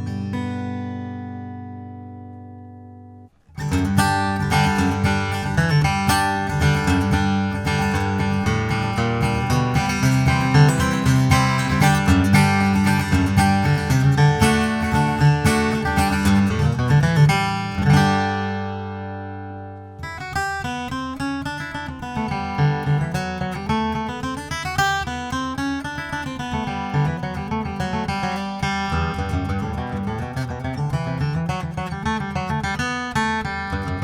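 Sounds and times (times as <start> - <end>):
acoustic guitar picked notes: 0.0 - 34.0
acoustic guitar strummed: 0.0 - 34.0.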